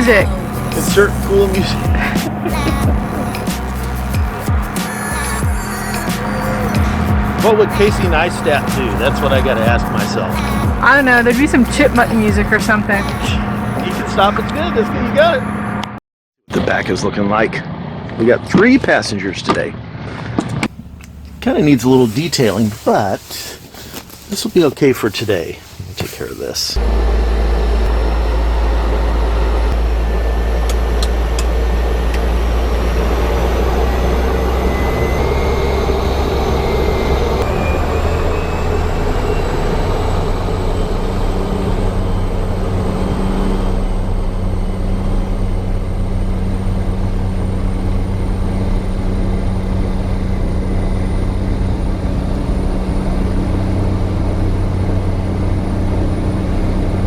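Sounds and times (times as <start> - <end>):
high turbine whine: 0.0 - 19.3, 26.8 - 57.0
turboprop engine running: 0.0 - 20.0, 20.7 - 57.0.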